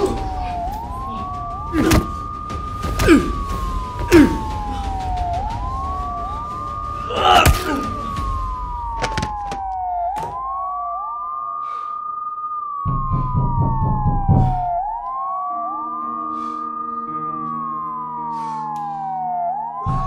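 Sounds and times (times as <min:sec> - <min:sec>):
wailing sirens: 0:00.0 - 0:20.0.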